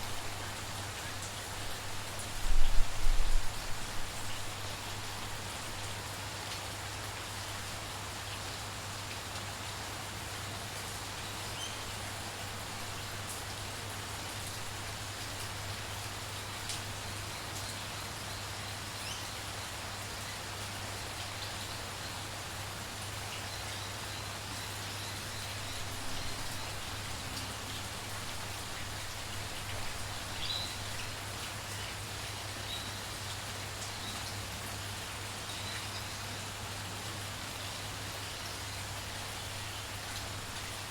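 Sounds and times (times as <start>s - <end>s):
rain on foliage: 0.0s - 40.9s.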